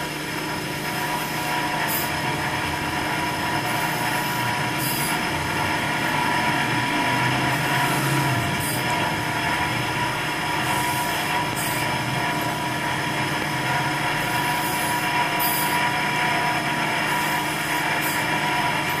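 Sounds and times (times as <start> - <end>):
mechanical drone with tones: 0.0 - 19.0.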